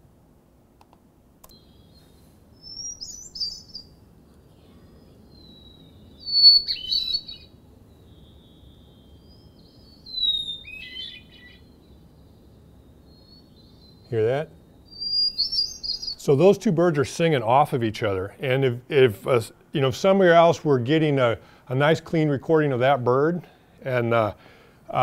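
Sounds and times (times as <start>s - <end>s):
faint second thrush singing: 1.4s - 21.7s.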